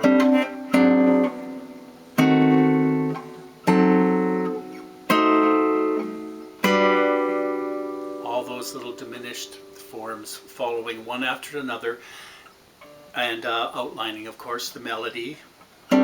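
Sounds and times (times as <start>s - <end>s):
guitar chords ringing: 0.0s - 13.8s.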